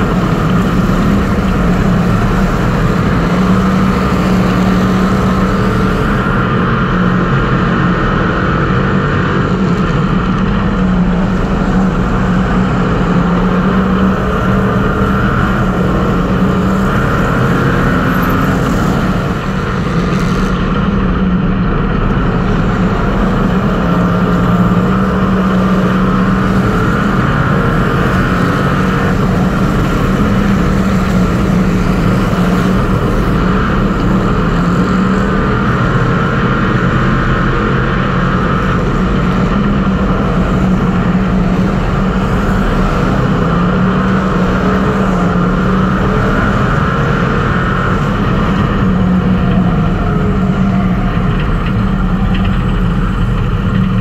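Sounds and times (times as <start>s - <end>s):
race car engine revving high: 0.0s - 54.0s.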